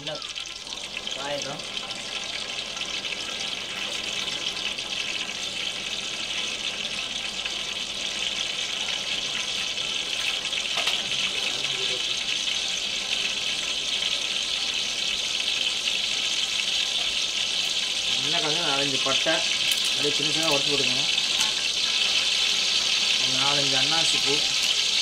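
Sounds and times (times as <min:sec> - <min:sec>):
hiss of oil heating in a pot: 0:00.0 - 0:25.0.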